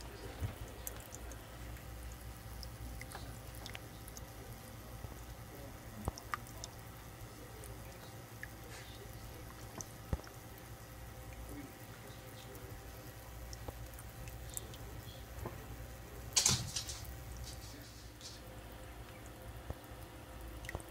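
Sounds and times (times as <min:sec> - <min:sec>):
small drip-like clicks: 0:00.0 - 0:20.9.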